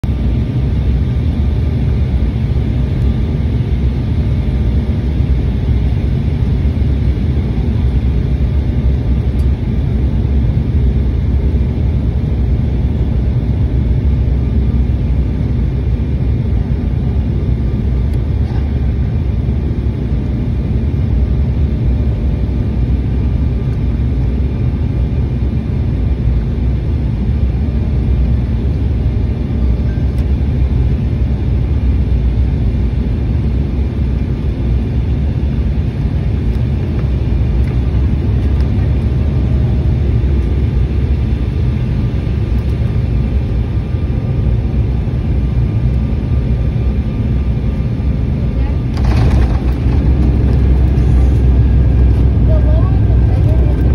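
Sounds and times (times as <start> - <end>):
jet cabin engine rumble: 0.0 - 53.9.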